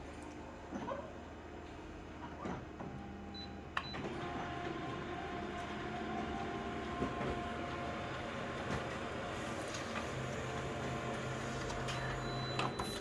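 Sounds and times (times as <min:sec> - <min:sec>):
photocopier humming and whining: 0:00.0 - 0:13.0.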